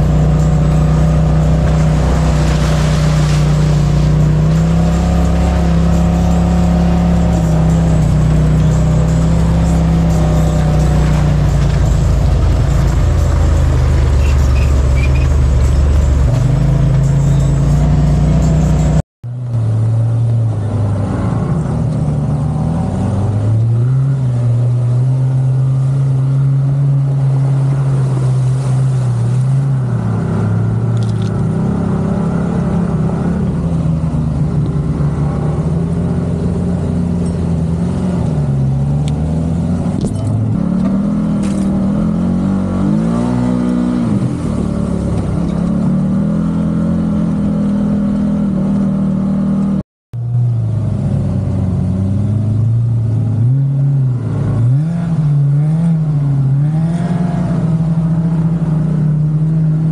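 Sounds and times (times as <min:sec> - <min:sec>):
vehicle engine revving: 0:00.0 - 0:59.9.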